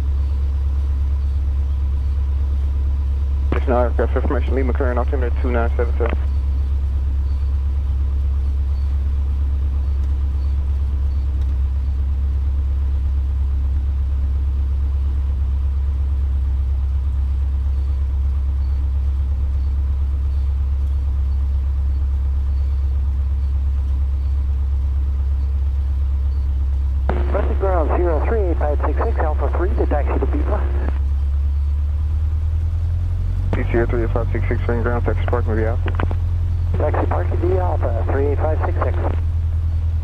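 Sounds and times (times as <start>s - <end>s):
small plane engine drone: 0.0s - 40.0s.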